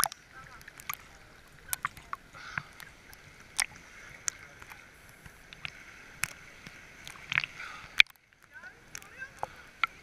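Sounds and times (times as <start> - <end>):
sea water lapping and splashing: 0.0 - 10.0.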